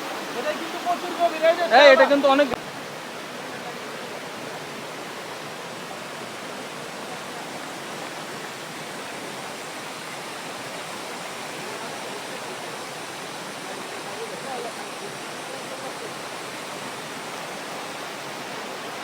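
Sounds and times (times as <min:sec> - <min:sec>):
rushing stream water: 0:00.0 - 0:19.0.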